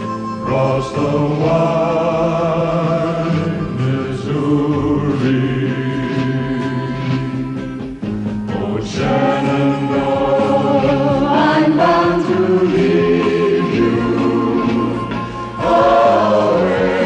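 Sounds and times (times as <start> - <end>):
men singing in harmony: 0.4 - 7.4, 8.5 - 17.0.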